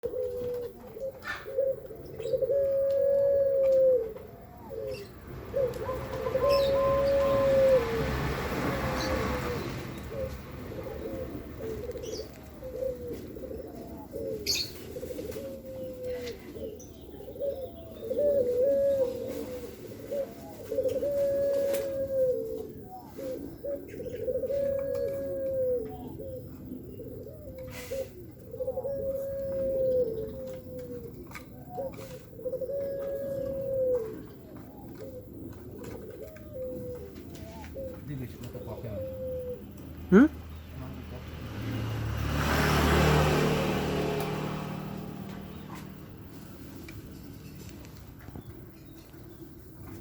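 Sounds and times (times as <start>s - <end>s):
doves cooing: 0.0s - 50.0s.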